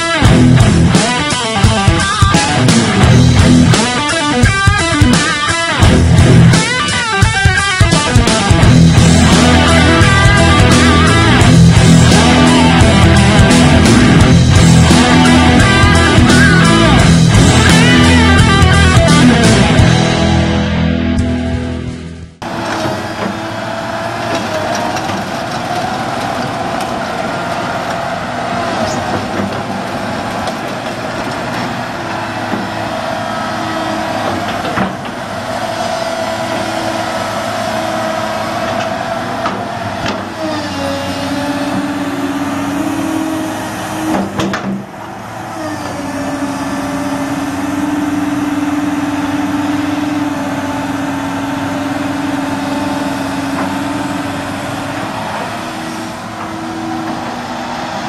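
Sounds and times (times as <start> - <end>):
whining hydraulic pump: 0.0 - 20.1, 22.4 - 58.0
excavator diesel engine under load: 0.0 - 58.0.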